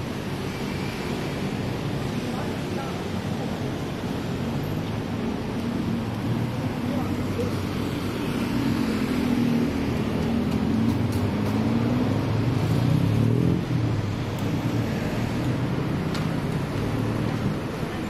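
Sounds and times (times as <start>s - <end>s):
passing vehicle engines: 0.0s - 18.0s.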